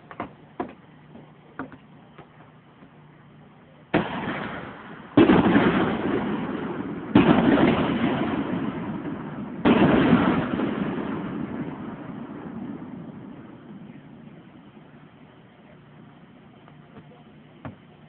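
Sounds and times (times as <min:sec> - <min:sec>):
fireworks booming with echo: 0:00.0 - 0:18.0.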